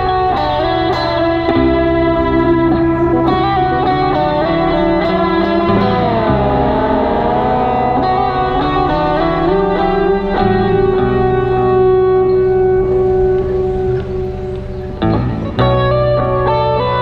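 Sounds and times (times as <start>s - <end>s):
electric guitar through amplifier: 0.0s - 17.0s
low drone: 0.0s - 17.0s.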